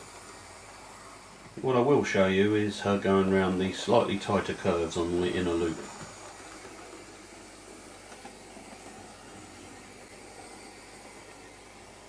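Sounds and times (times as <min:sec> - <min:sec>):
model train whirring on rails: 0:00.0 - 0:12.0.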